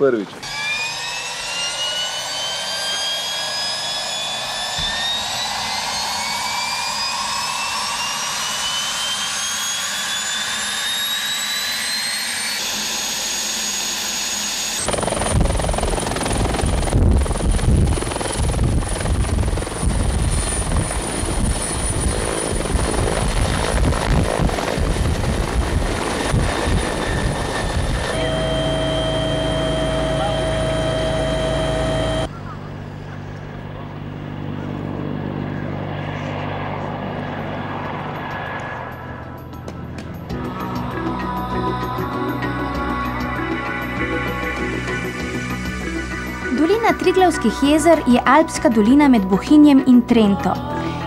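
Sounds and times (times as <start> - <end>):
helicopter rotor chop: 0.0 - 51.0
helicopter turbine whine: 0.0 - 51.0.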